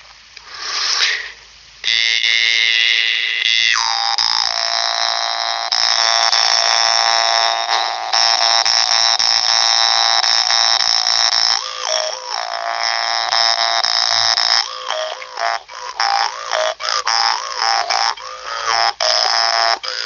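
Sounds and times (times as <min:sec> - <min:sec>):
jaw harp buzzing drone: 0:01.8 - 0:20.0.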